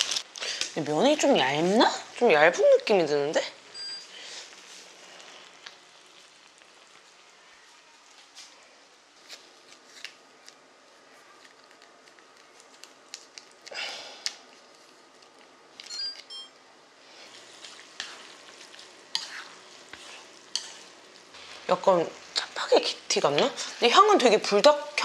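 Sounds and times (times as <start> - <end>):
noodles sizzling in a frying pan: 0.0 - 15.8, 16.8 - 25.0.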